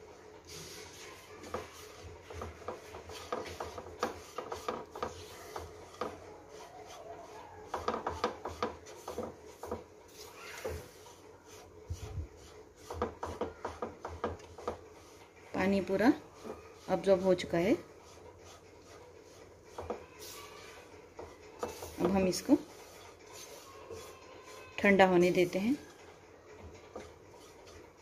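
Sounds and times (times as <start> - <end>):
spatula scraping dough in a pan: 0.5 - 28.0.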